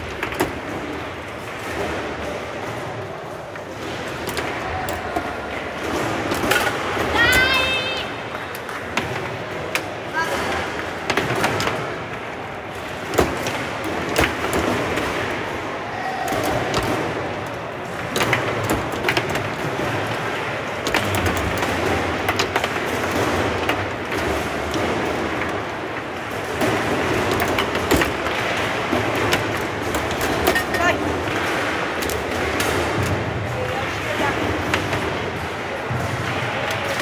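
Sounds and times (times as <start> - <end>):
foosball ball clacking: 0.0 - 7.3, 8.0 - 37.0.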